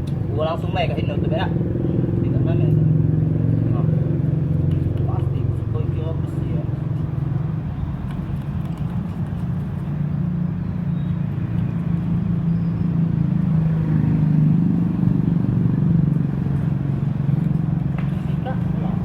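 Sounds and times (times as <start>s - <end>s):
engine running with low hum: 0.0s - 19.0s.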